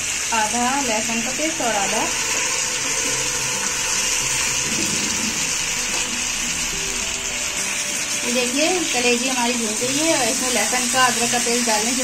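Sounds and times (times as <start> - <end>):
liver sizzling in oil: 0.0 - 12.0.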